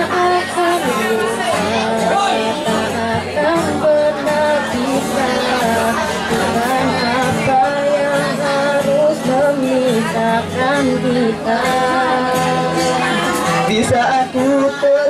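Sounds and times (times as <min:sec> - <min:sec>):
acoustic guitar: 0:00.0 - 0:15.0
girl singing into a microphone: 0:00.0 - 0:15.0.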